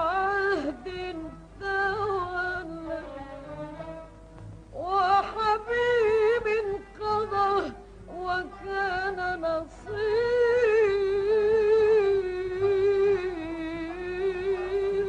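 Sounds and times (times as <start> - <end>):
woman singing: 0.0 - 3.8, 4.8 - 15.0.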